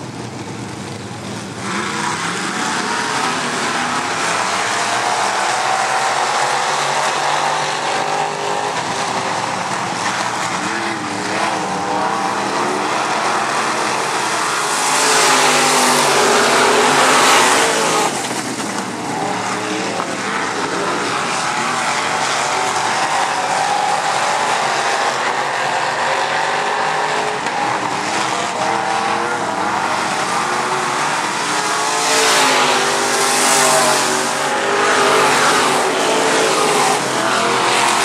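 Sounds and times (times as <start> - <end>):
race car engines: 0.0 - 38.0.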